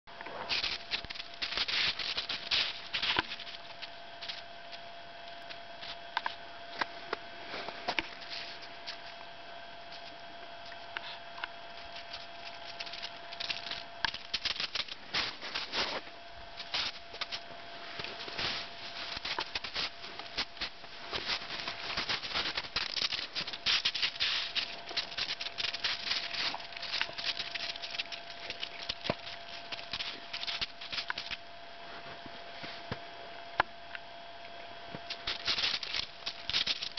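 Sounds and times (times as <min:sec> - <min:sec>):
faint steady whine: 0:00.1 - 0:36.9
crunching on crusty snow: 0:00.3 - 0:33.0, 0:35.0 - 0:36.9.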